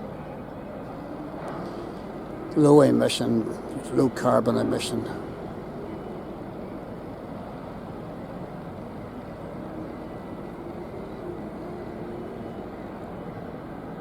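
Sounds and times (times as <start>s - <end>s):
faint hum: 0.0s - 14.0s
low engine rumble: 0.0s - 14.0s.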